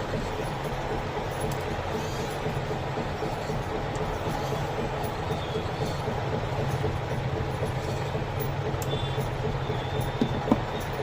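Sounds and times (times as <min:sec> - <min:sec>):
moving vehicle rumble and hiss: 0:00.0 - 0:11.0.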